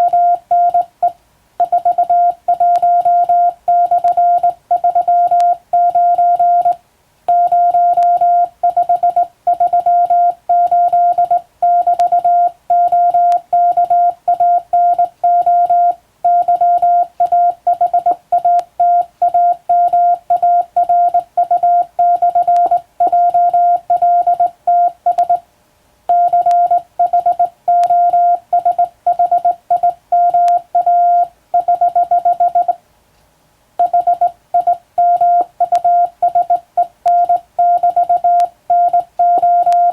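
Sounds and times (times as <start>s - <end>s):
morse code beeps: 0.0s - 25.4s, 26.1s - 32.8s, 33.8s - 39.9s.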